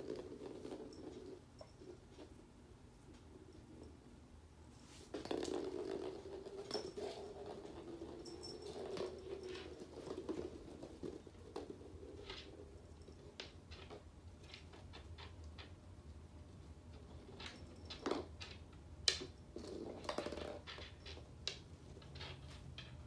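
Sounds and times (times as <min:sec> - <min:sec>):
plastic ball rolling on floor: 0:00.0 - 0:02.4, 0:04.9 - 0:15.8, 0:16.9 - 0:23.0.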